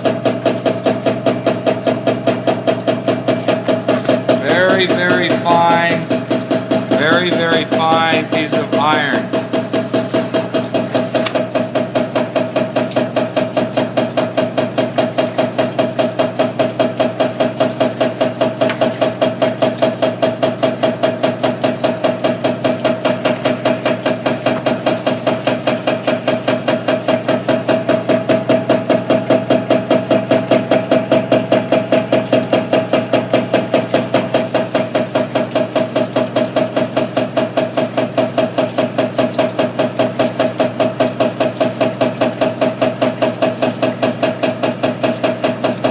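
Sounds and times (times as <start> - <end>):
rapid even mechanical knocking: 0.0 - 45.9
steady motor hum: 0.0 - 45.9.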